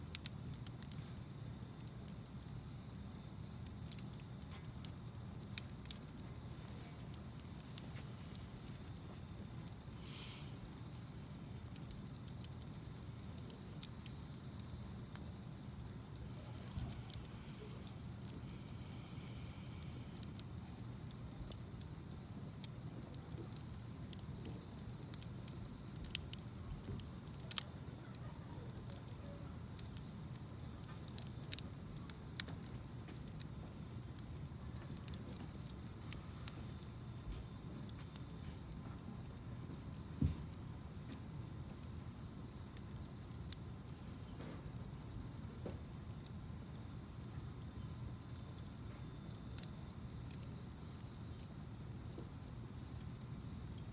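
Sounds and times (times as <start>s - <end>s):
campfire crackles and pops: 0.0s - 53.9s
low rumble of flames: 0.0s - 53.9s.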